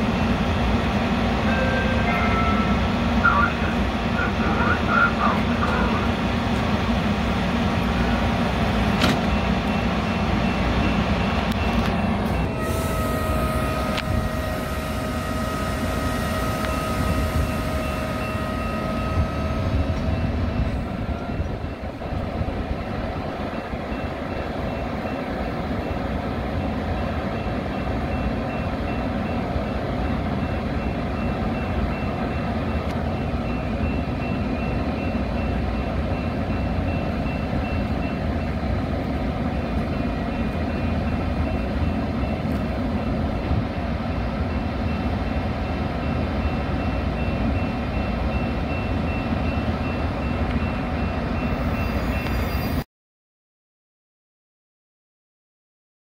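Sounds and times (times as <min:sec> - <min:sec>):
train engine rumbling: 0:00.0 - 0:52.8.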